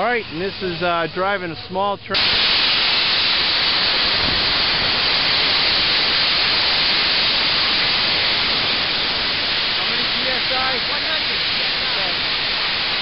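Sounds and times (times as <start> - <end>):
steam hissing from safety valve: 0.0 - 13.0.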